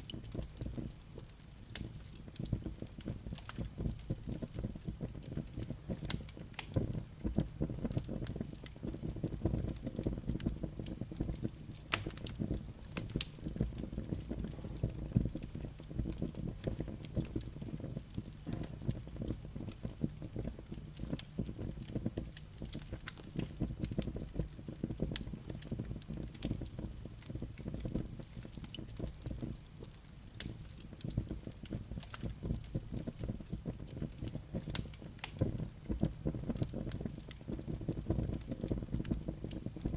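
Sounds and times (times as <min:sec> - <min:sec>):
burning logs crackling and popping: 0:00.0 - 0:39.9
fire flames rumbling: 0:00.1 - 0:39.9.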